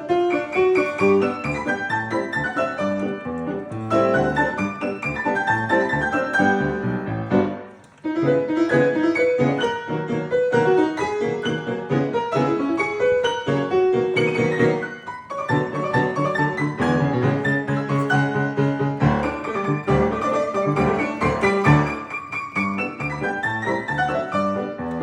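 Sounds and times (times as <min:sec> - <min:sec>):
lively piano piece: 0:00.0 - 0:25.0.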